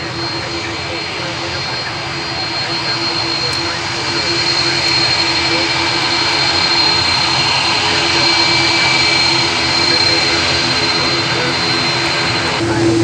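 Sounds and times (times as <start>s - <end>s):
jet engines whining: 0.0s - 13.0s.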